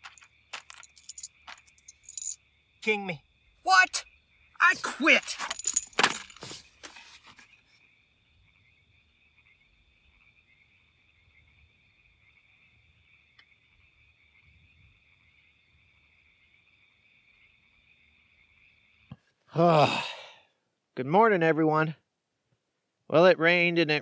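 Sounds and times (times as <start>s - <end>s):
crickets or frogs calling: 0.0s - 22.2s.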